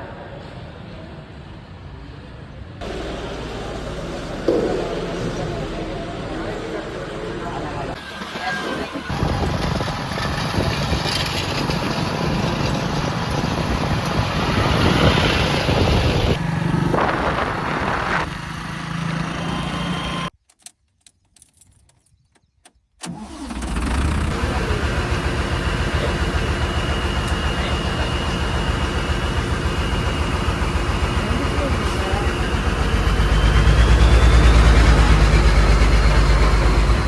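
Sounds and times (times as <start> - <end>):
heavy diesel engines running: 0.0 - 20.3, 23.1 - 37.0.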